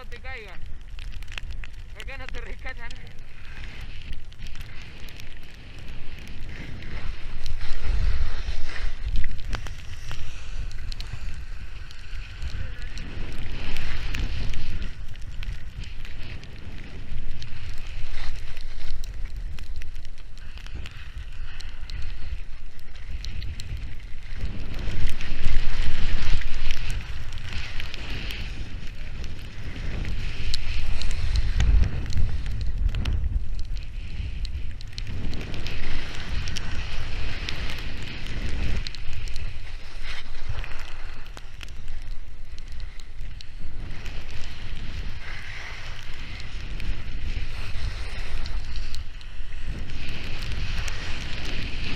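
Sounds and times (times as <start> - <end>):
skis sliding over snow: 0.0 - 51.9
wind buffeting microphone: 0.0 - 51.9.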